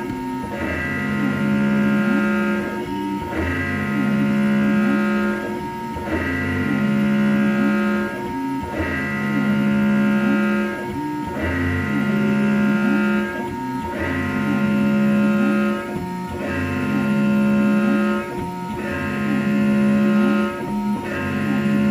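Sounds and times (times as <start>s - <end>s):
router spindle cutting whine: 0.0s - 21.9s.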